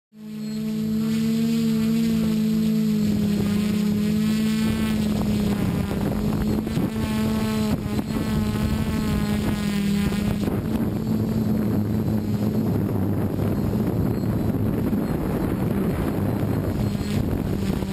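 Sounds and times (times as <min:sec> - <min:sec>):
drone motors humming: 0:00.1 - 0:17.9
wind buffeting microphone: 0:03.0 - 0:17.9.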